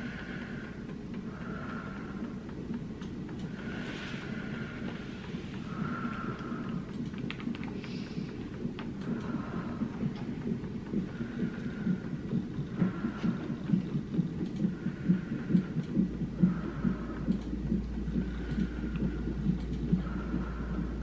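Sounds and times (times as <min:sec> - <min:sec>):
fetal heartbeat on doppler speaker: 0:00.0 - 0:21.0
steady low hum: 0:00.0 - 0:21.0.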